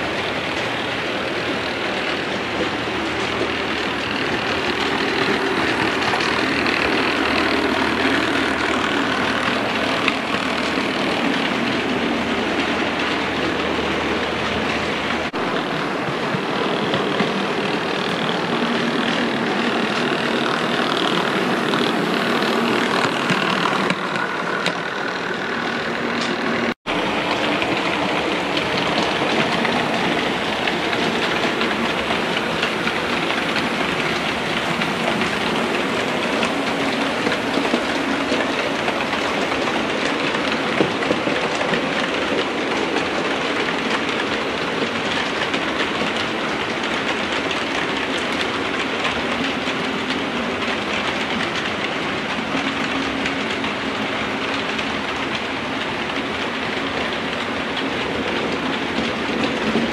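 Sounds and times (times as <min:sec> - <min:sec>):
model train wheels rattling: 0:00.0 - 0:59.9.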